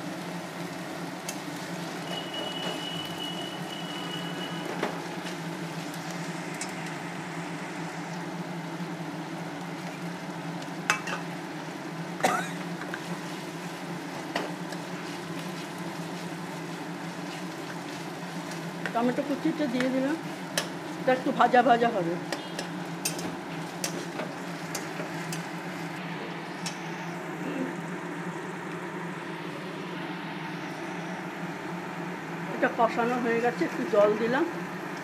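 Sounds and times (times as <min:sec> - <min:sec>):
food sizzling in hot oil: 0:00.0 - 0:31.4.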